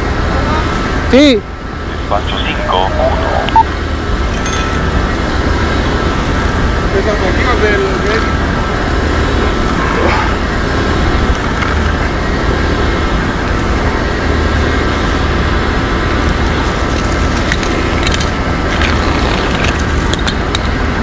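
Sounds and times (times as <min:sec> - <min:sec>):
engine droning: 0:00.0 - 0:21.0.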